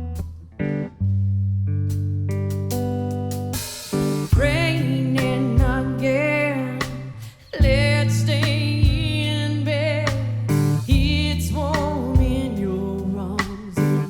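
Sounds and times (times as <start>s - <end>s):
guitar: 0.0s - 14.0s.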